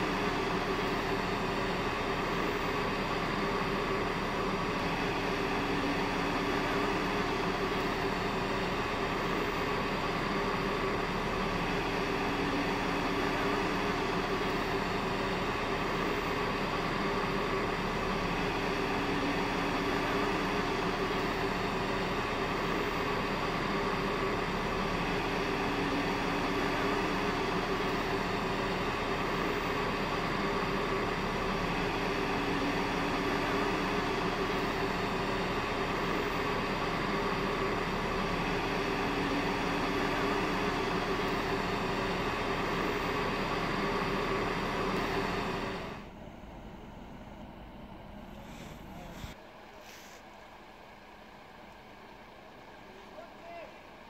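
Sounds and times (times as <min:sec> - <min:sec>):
steady mechanical drone: 0:00.0 - 0:54.0.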